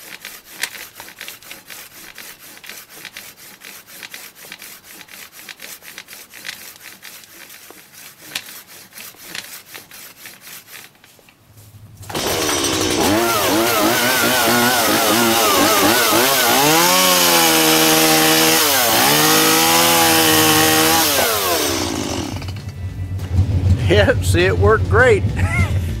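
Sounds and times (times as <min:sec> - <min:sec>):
hand saw cutting wood: 0:00.0 - 0:11.2, 0:12.1 - 0:22.6.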